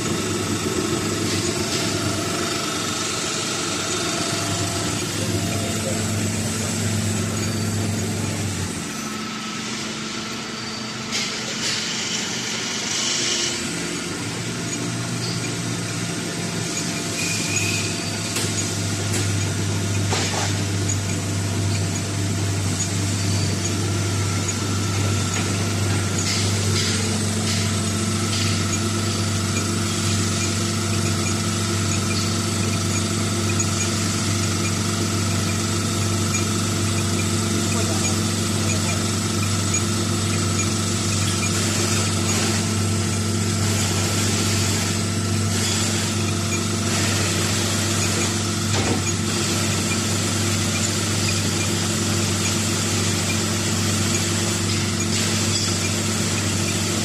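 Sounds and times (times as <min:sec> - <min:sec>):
hydraulic motor humming with whine: 0:00.0 - 0:57.0.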